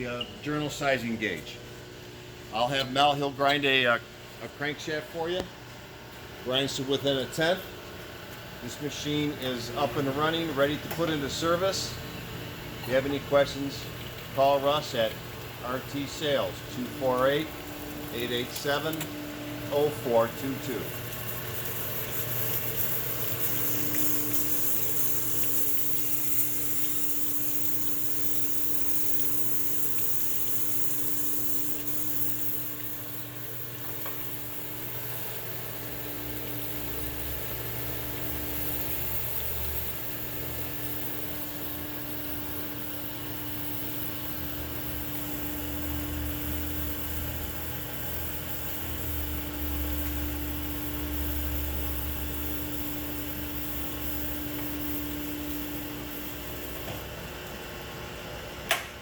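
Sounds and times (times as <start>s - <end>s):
crankshaft grinder hiss and hum: 0.0s - 59.0s.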